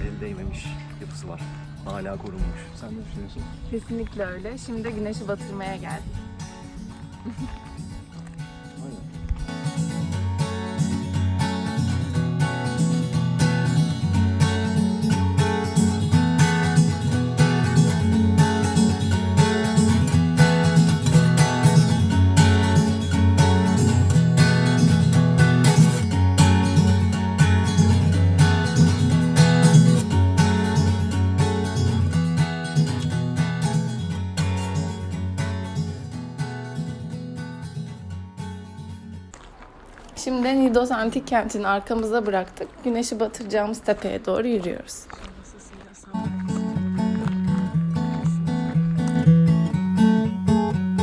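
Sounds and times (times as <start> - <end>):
strummed acoustic guitar: 0.0 - 39.5, 46.1 - 51.0.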